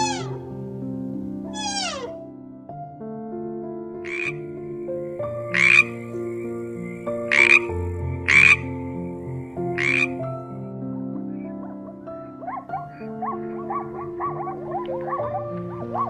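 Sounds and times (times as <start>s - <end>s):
frog croaking: 0.0s - 0.5s, 1.5s - 2.2s, 4.0s - 16.0s
soft background music: 0.0s - 16.0s.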